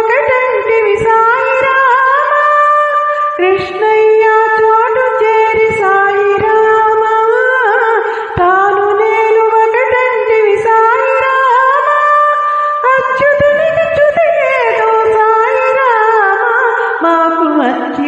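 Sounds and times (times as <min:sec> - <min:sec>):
woman singing devotional song: 0:00.0 - 0:18.0.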